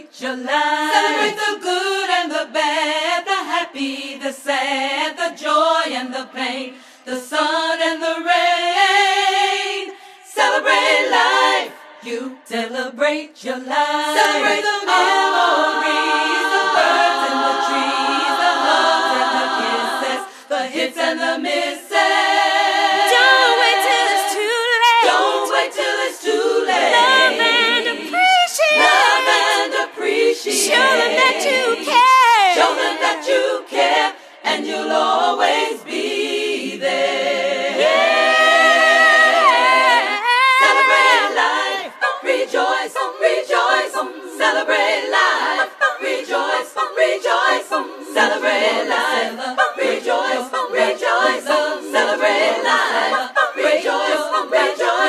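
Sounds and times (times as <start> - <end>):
vocal group singing in harmony: 0.0 - 55.0.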